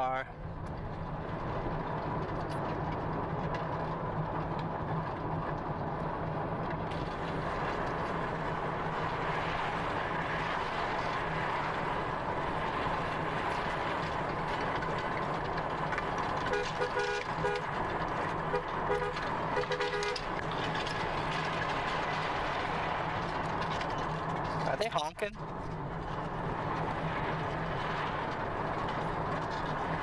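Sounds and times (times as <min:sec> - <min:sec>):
car cabin road noise: 0:00.0 - 0:30.0.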